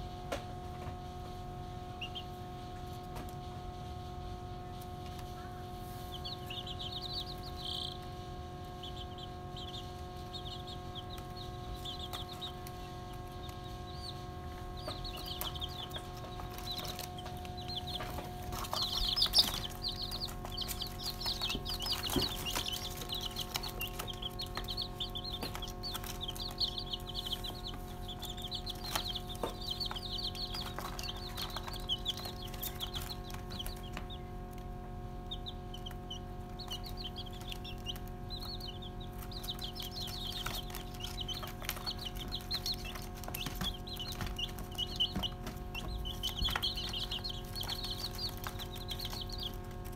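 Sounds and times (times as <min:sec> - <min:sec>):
chicks peeping: 0:00.0 - 0:49.9
steady hum: 0:00.0 - 0:49.9.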